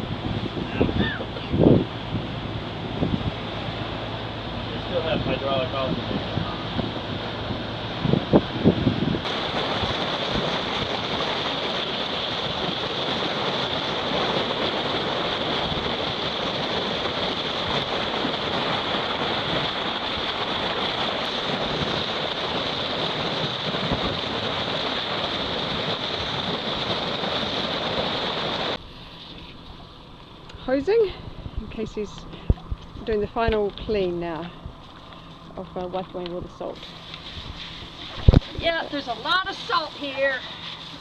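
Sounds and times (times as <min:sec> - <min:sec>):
wind buffeting microphone: 0:00.0 - 0:28.8, 0:30.7 - 0:40.6
sea water washing: 0:00.0 - 0:41.0.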